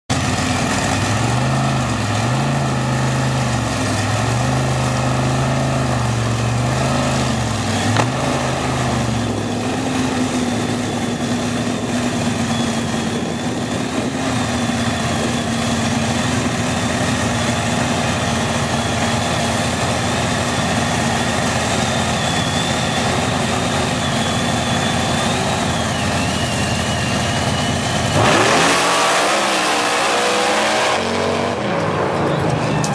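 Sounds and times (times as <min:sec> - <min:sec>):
buggy engine revving and idling: 0:00.1 - 0:32.9.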